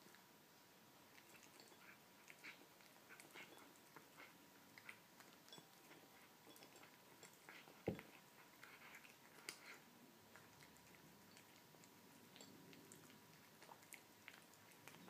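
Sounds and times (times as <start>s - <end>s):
cat chewing kibble: 1.0s - 15.0s.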